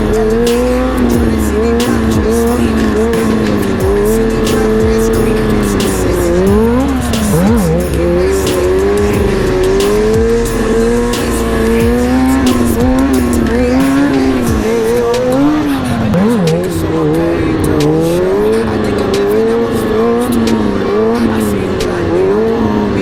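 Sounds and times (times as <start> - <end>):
hip-hop beat with deep bass: 0.0 - 23.0
motorcycle engine revving high: 0.0 - 23.0.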